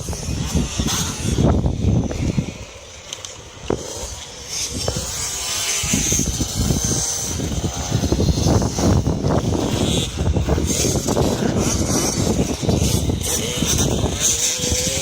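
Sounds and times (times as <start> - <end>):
motocross bike engine revving: 0.0 - 2.8, 3.6 - 15.0.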